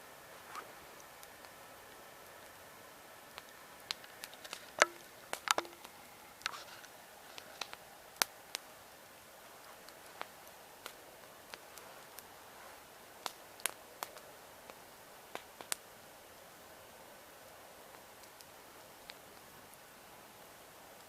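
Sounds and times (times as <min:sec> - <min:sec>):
hiss of flames: 0:00.0 - 0:21.0
campfire pops and crackles: 0:00.3 - 0:21.0.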